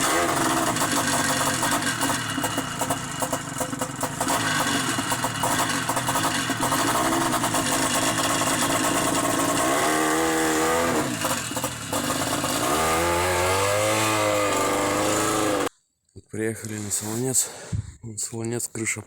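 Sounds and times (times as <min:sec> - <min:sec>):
snowmobile engine running: 0:00.0 - 0:15.7.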